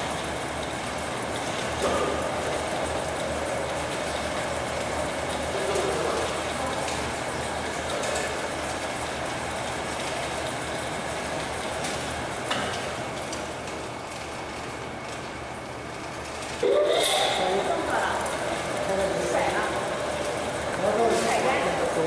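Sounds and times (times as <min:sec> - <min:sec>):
low motor hum: 0:00.0 - 0:22.0
machine mechanical rattle: 0:00.0 - 0:22.0.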